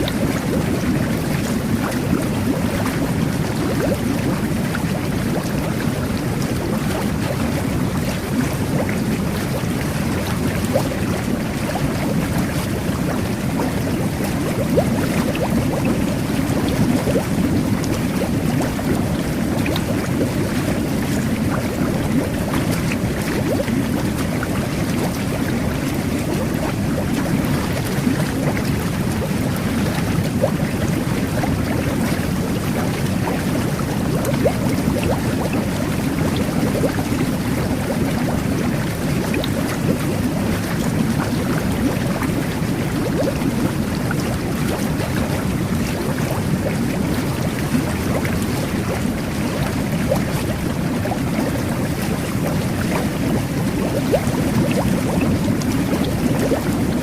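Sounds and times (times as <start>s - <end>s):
bubbles popping: 0.0s - 57.0s
jet bath water bubbling: 0.0s - 57.0s.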